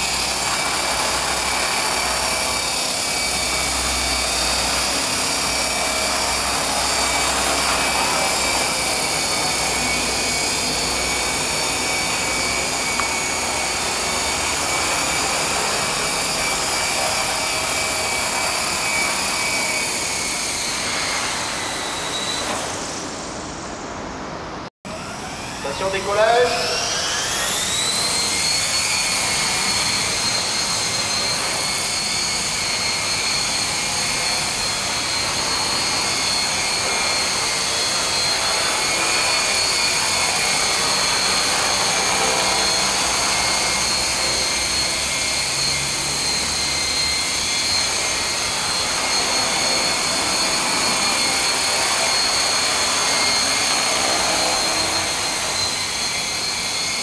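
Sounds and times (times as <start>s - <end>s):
rc helicopter motor whine: 0.0s - 23.8s, 24.9s - 57.0s
rotor blades rushing: 0.0s - 57.0s.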